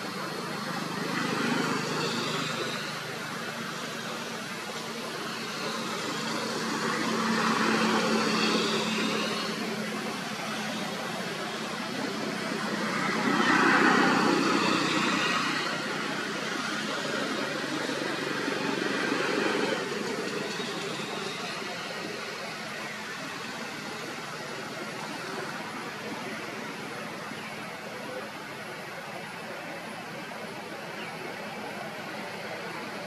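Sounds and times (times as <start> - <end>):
passing vehicles: 0.0 - 33.0.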